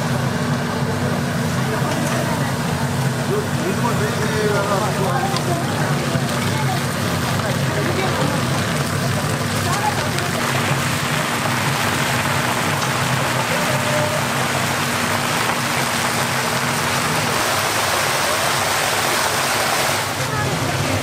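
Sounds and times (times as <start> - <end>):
oil sizzling while deep-frying: 0.0 - 21.0.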